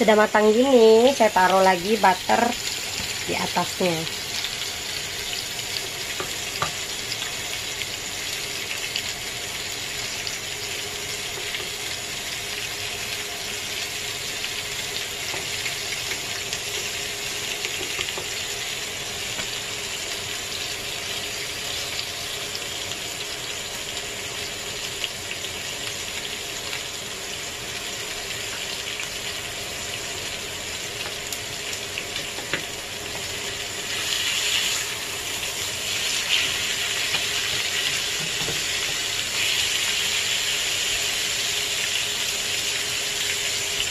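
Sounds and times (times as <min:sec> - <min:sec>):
steaks sizzling on a grill pan: 0:00.1 - 0:43.9.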